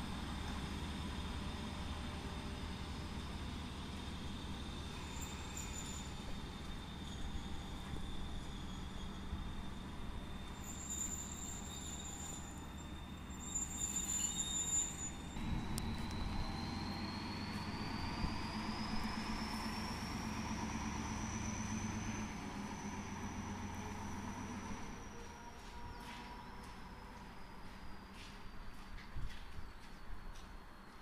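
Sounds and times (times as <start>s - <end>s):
diesel locomotive engine: 0.0s - 31.0s.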